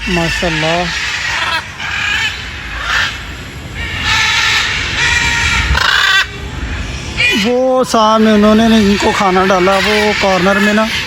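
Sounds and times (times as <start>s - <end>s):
parrots squawking: 0.0s - 11.0s.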